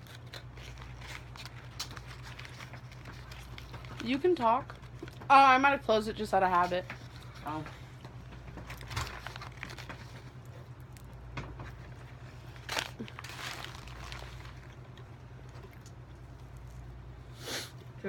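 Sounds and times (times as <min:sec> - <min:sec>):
food packaging crinkling: 0:00.0 - 0:05.3, 0:06.5 - 0:16.9
steady low hum: 0:00.0 - 0:18.0.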